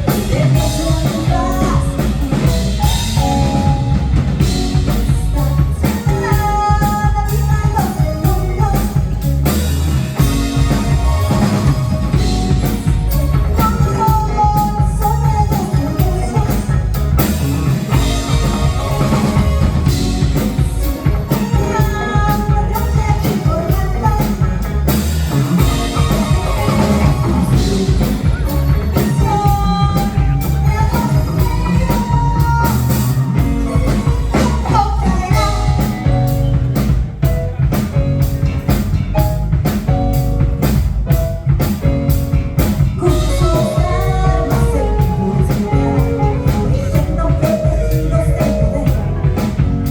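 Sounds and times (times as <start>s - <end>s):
rock funk band playing: 0.0s - 49.9s.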